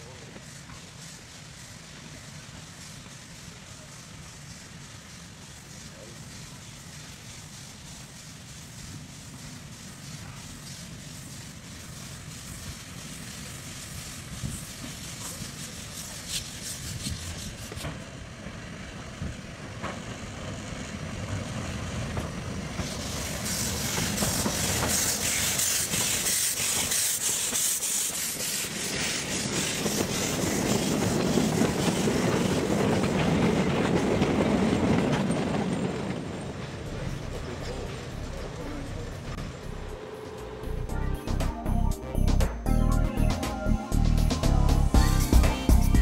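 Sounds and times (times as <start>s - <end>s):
steam hiss: 0.0s - 40.9s
steam locomotive passing: 0.0s - 46.0s
wagons rumbling on rails: 0.0s - 46.0s.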